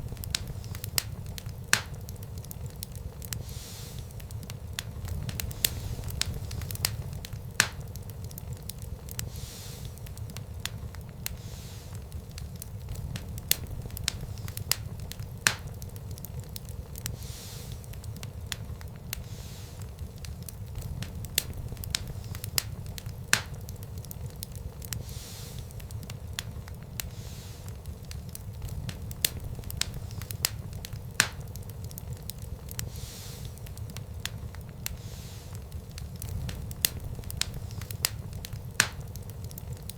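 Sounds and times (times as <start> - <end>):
fire crackles and pops: 0.0 - 39.9
wood fire burning: 0.0 - 39.9.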